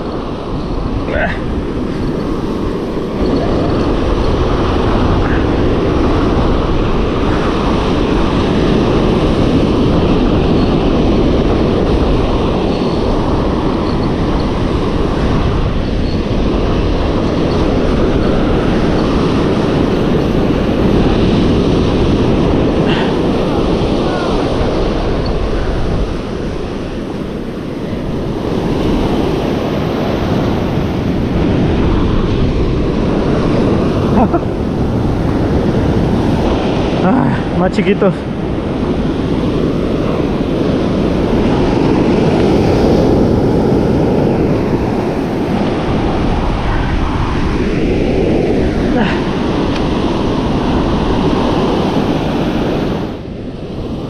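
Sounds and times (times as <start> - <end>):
surf washing on beach: 0.0 - 54.0
wind on microphone: 0.0 - 54.0.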